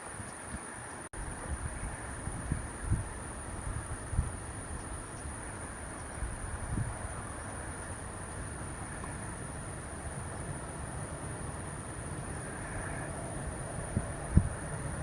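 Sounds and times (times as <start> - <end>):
rushing noise with low rumble: 0.0 - 15.0.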